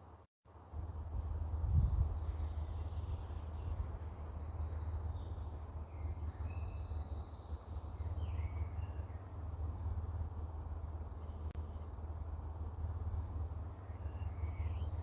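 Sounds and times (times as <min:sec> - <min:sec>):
small birds chirping and trilling: 0:00.6 - 0:15.0
steady low rumble: 0:00.8 - 0:15.0.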